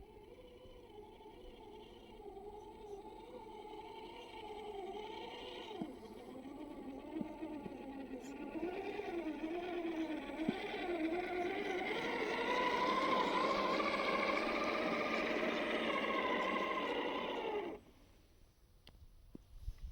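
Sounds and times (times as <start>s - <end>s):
electric motor whining: 0.0s - 17.9s.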